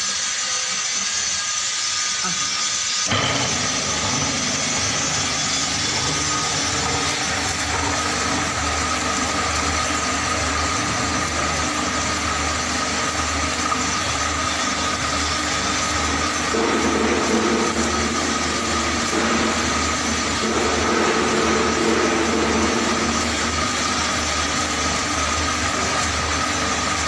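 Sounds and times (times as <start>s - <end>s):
mixer motor whining: 3.1s - 27.0s.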